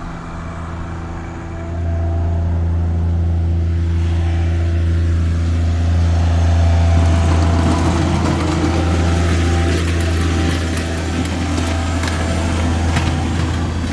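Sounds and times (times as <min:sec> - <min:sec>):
rushing noise: 0:00.0 - 0:13.9
vehicle engine humming: 0:00.0 - 0:13.9.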